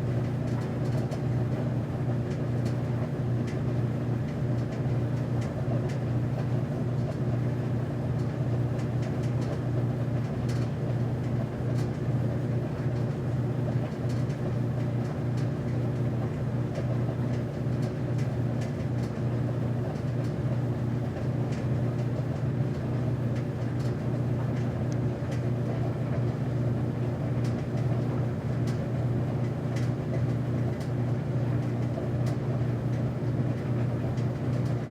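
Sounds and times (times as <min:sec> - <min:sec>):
laundry machine humming: 0:00.0 - 0:34.9.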